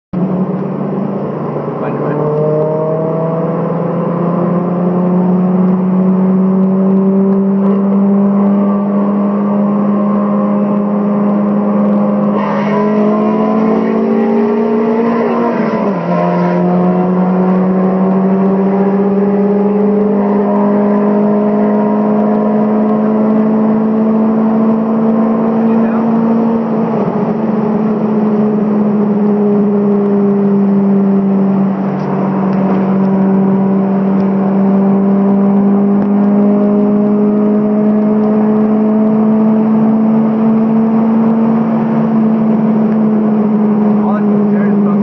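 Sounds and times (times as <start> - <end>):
car engine at full throttle: 0.1 - 45.0.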